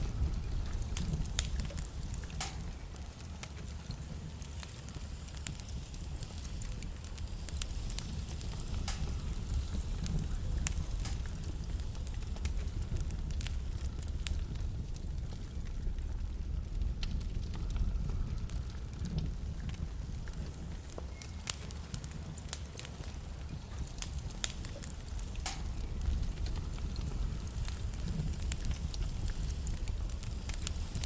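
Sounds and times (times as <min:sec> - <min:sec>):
logs crackling and popping: 0:00.0 - 0:31.0
low rumble of flames: 0:00.0 - 0:31.0.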